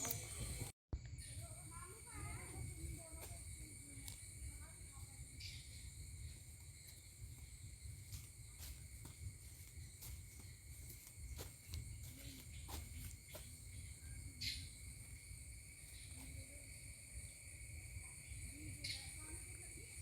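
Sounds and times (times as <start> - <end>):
shrill insect chorus: 0.0 - 20.0.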